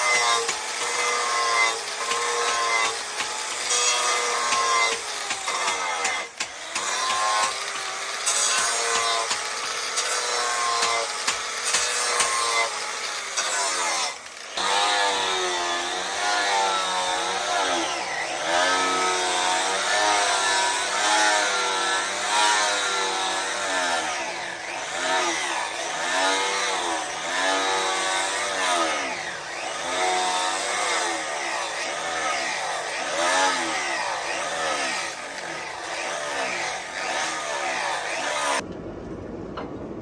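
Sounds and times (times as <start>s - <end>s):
electric grinder on knife blade: 0.0s - 38.6s.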